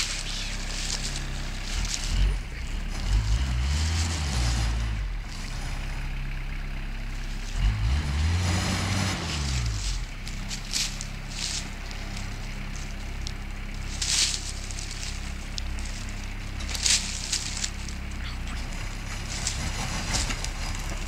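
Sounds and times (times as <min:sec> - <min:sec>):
diesel engine revving under load: 0:00.0 - 0:21.0.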